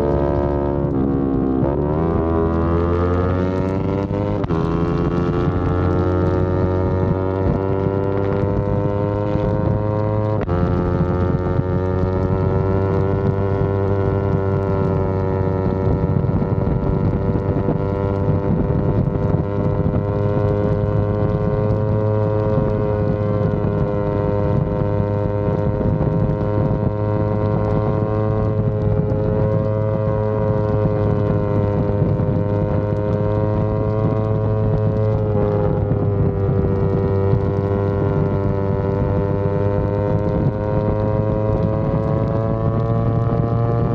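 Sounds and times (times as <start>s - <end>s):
motorcycle engine droning: 0.0s - 43.9s.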